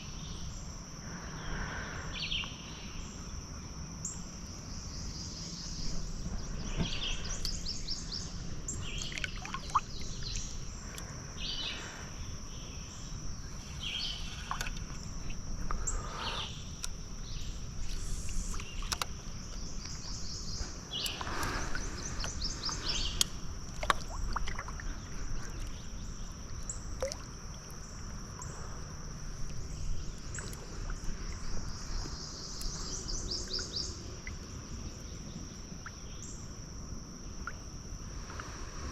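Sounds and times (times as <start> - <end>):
high-pitched insect drone: 0.0 - 36.6
low rumble of water: 0.1 - 38.9.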